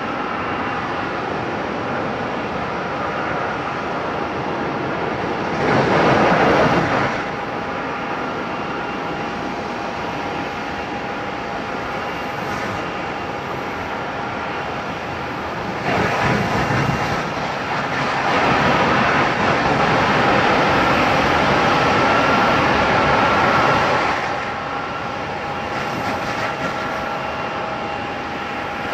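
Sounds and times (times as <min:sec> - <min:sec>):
jet engines running with whine: 0:00.0 - 0:28.9.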